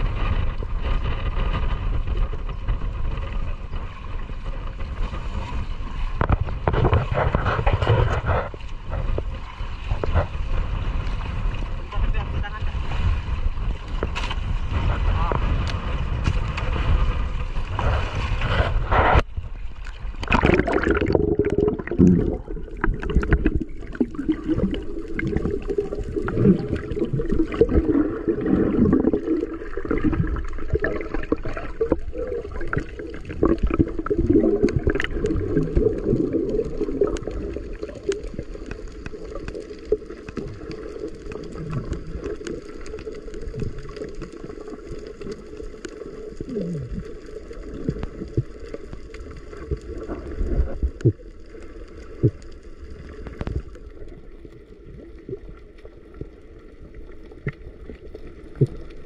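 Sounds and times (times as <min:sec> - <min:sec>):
underwater water rushing and gurgling: 0:00.0 - 0:59.0.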